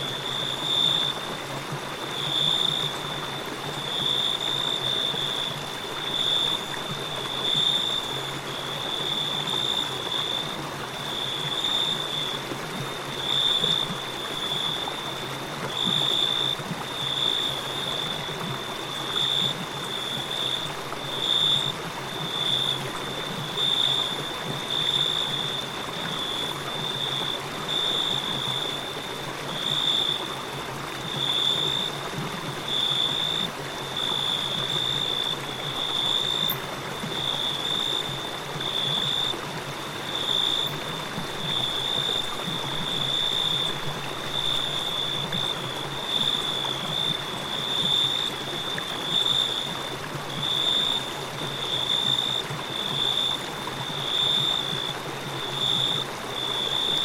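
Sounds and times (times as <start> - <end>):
crickets chirping: 0.0 - 57.0
river flowing: 0.0 - 57.0.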